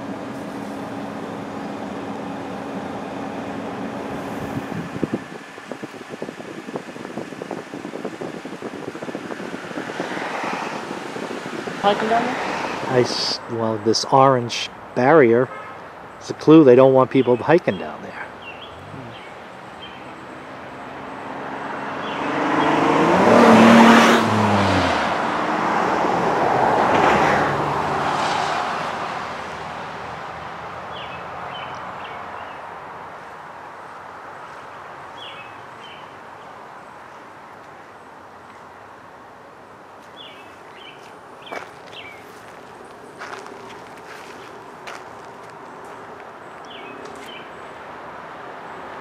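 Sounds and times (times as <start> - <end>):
traffic background: 0.0 - 49.0
vehicles passing by: 0.0 - 49.0.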